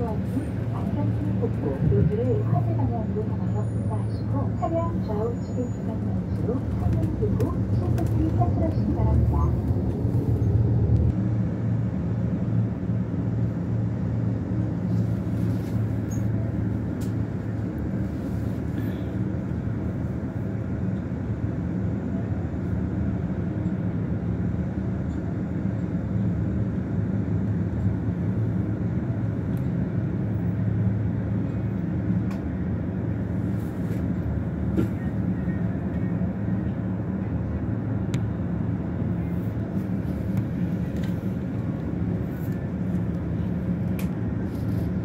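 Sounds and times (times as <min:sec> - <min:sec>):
bus engine humming: 0:00.0 - 0:45.0.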